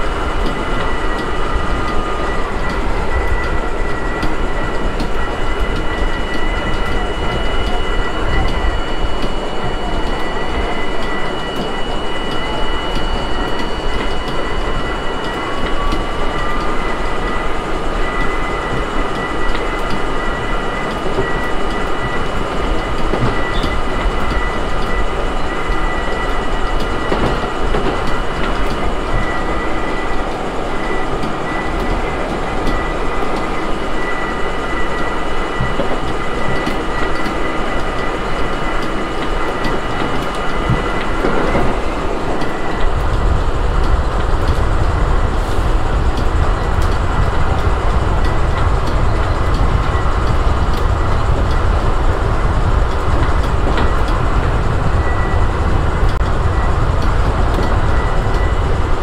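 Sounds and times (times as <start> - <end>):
subway wheels rumbling on rail: 0.0 - 59.0.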